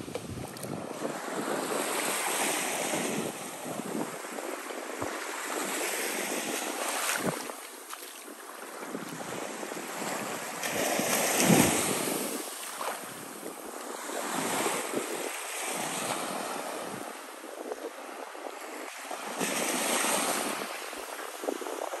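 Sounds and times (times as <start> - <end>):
surf washing onto sandy beach: 0.0 - 22.0
wind buffeting microphone: 0.0 - 22.0.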